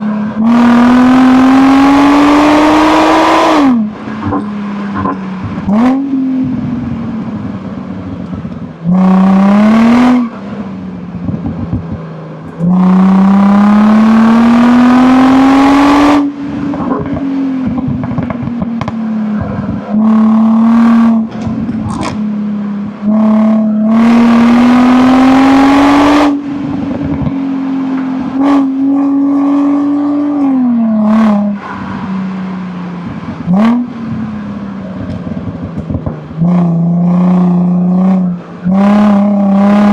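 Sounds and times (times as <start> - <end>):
car engine revving hard: 0.0 - 7.5, 8.8 - 10.7, 12.5 - 39.9
exhaust crackles: 3.6 - 39.9.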